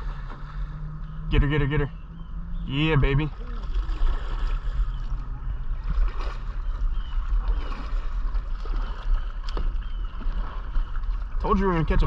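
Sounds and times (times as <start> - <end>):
water sloshing and gurgling: 0.0 - 12.0
wind rumble on microphone: 0.0 - 12.0.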